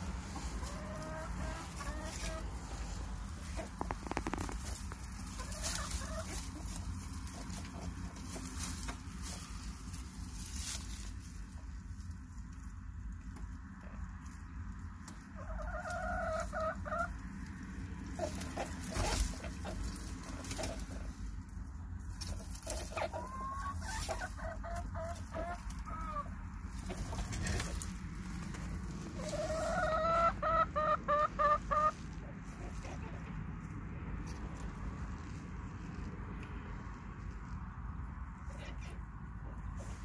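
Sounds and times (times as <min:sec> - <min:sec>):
chicken clucking: 0:00.0 - 0:10.3, 0:13.2 - 0:36.1, 0:37.3 - 0:40.0
chickens calling: 0:00.0 - 0:40.0.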